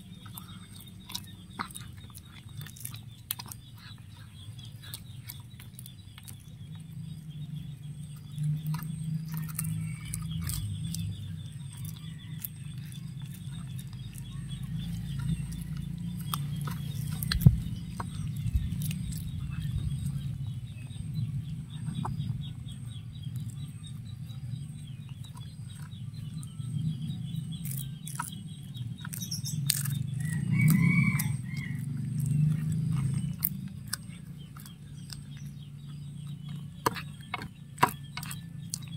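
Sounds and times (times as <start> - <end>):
cat chewing and crunching fish: 0.0 - 38.9.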